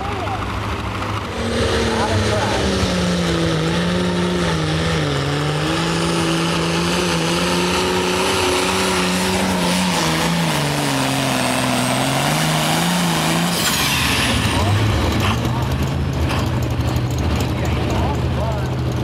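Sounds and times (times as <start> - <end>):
diesel tractor engine at full throttle: 0.0 - 19.0.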